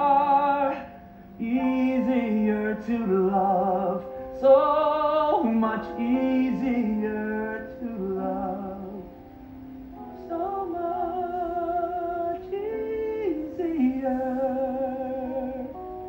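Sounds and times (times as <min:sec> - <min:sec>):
instrumental ballad accompaniment: 0:00.0 - 0:16.0.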